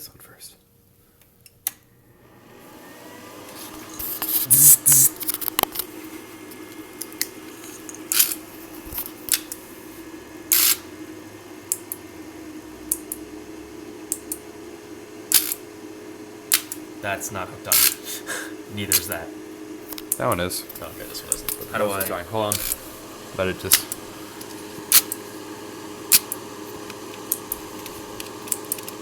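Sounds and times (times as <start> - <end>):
steady electrical hum: 3.6 - 29.0.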